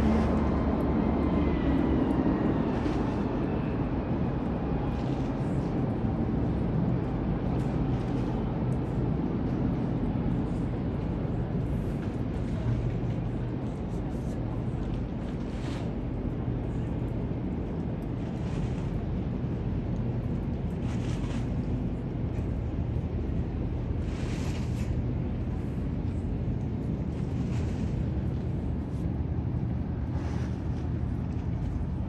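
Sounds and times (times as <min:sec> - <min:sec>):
city and river ambience rumble: 0:00.0 - 0:32.0.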